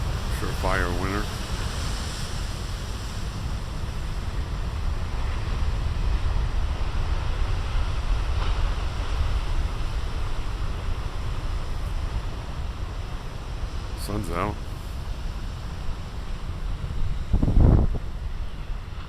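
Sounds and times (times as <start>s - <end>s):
ocean waves breaking on beach: 0.0s - 19.0s
wind rumbling on microphone: 0.0s - 19.0s.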